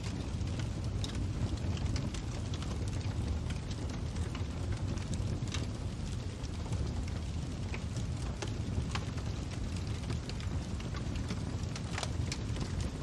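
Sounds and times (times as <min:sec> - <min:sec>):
fire crackling: 0:00.0 - 0:13.0
pops and snaps of fire: 0:00.0 - 0:13.0.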